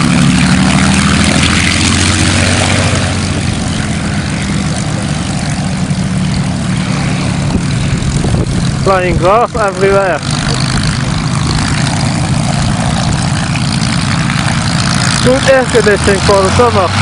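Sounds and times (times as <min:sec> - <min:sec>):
propeller aircraft engine drone: 0:00.0 - 0:17.0
propeller rushing air: 0:00.0 - 0:17.0.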